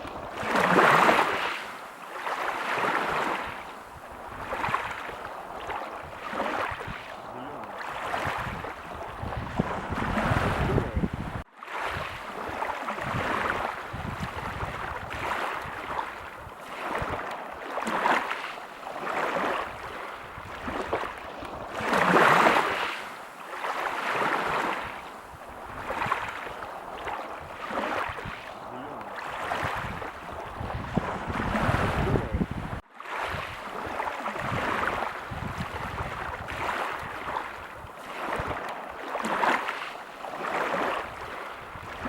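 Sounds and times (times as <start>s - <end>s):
waves washing on beach: 0.0s - 42.0s.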